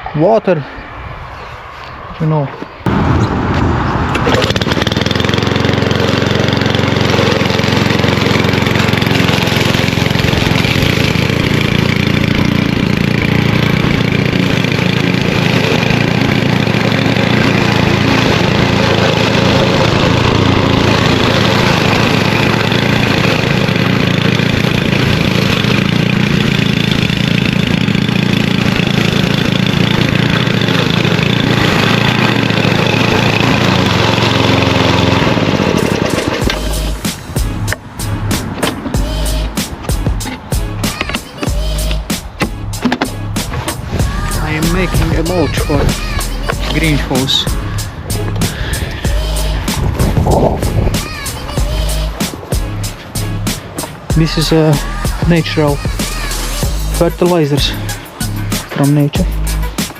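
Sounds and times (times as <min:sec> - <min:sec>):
lawnmower engine running: 0:02.8 - 0:59.9.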